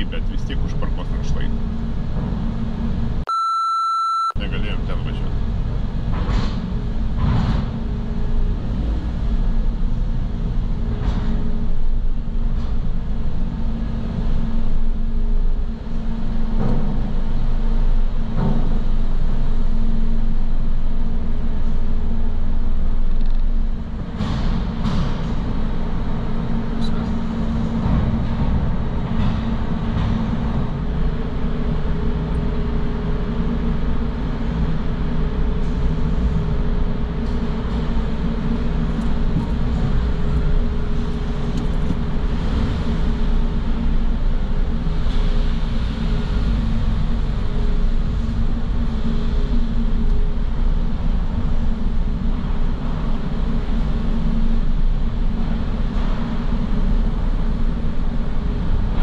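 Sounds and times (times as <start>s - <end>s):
car engine and road noise: 0.0s - 3.3s, 4.4s - 59.0s.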